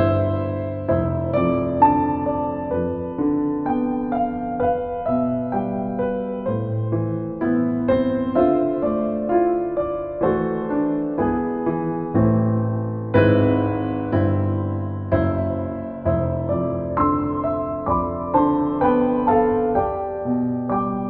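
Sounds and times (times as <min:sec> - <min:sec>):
gentle solo piano: 0:00.0 - 0:21.0.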